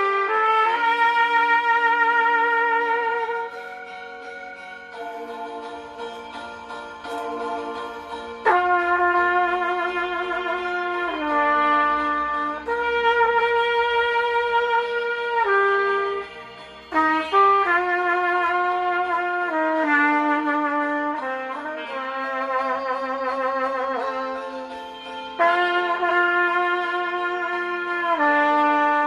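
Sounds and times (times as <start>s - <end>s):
trumpet playing slow melody: 0.0s - 29.0s.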